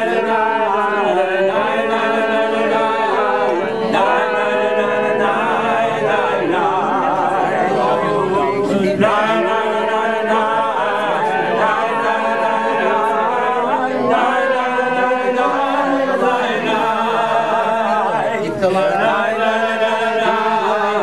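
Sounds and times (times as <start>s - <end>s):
person singing unaccompanied: 0.0s - 21.0s.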